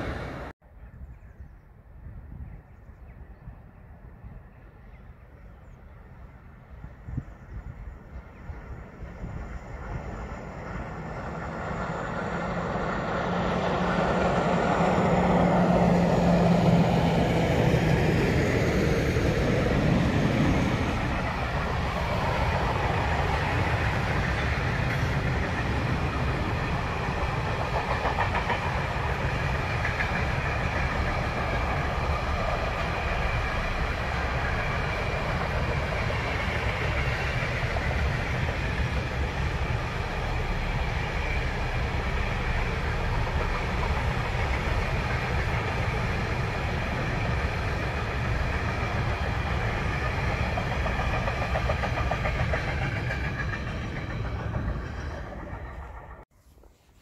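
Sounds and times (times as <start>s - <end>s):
electric locomotive hum: 0.0s - 0.5s, 5.8s - 56.2s
train wheels rumbling on rail: 0.0s - 0.5s, 5.8s - 56.3s.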